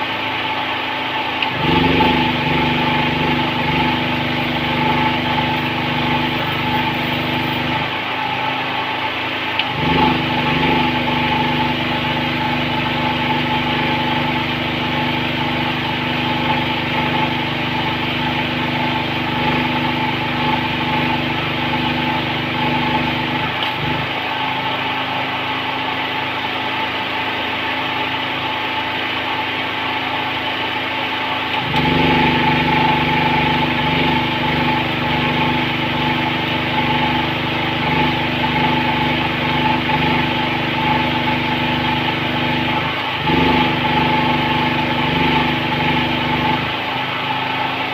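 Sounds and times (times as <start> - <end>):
small engine droning: 0.0 - 47.9.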